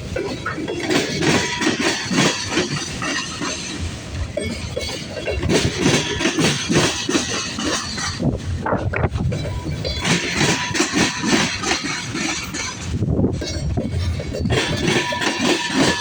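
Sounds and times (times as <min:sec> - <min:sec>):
freight train wheels clanking: 0:00.0 - 0:16.0
train rumble: 0:00.0 - 0:16.0.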